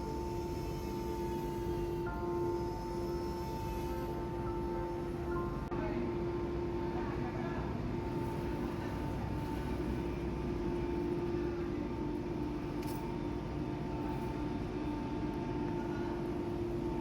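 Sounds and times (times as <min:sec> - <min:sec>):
industrial machinery drone: 0:00.0 - 0:17.0.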